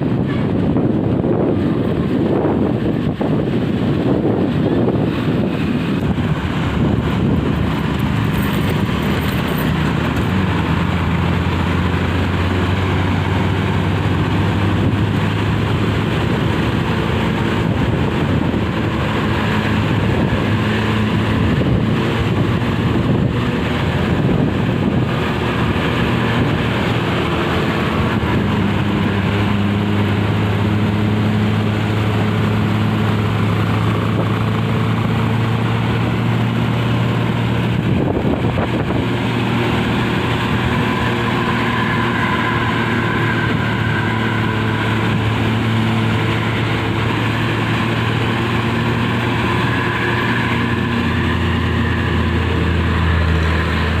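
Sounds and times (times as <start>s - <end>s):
diesel engines droning: 0.0s - 54.0s
road noise: 0.0s - 54.0s.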